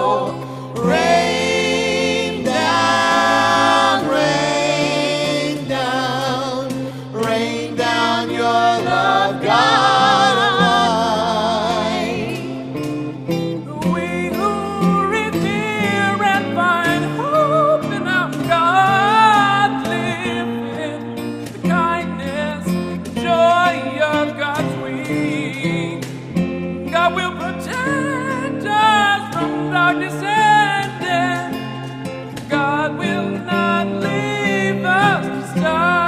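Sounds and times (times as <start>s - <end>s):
acoustic guitar: 0.0s - 36.0s
singers performing a hymn: 0.0s - 36.0s.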